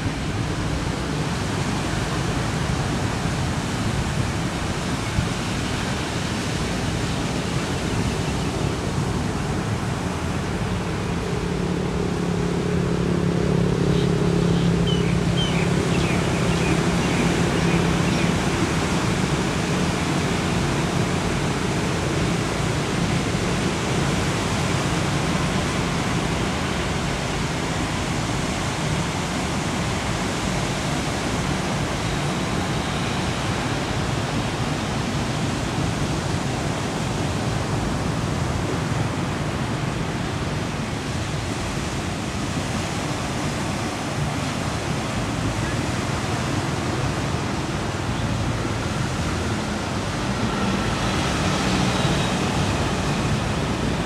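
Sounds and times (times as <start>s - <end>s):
ocean surf breaking: 0.2s - 54.0s.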